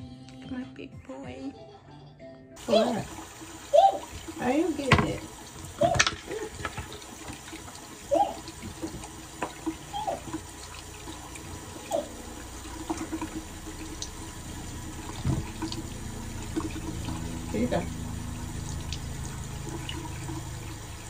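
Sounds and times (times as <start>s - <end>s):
tap water splashing into basin: 2.6s - 21.0s.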